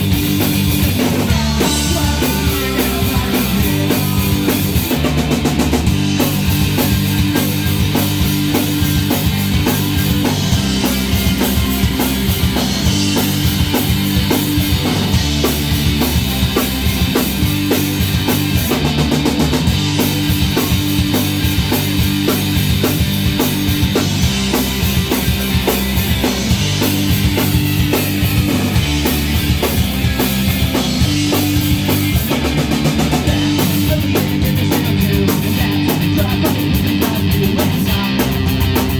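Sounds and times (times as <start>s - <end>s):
rock band instrumental: 0.0s - 38.9s.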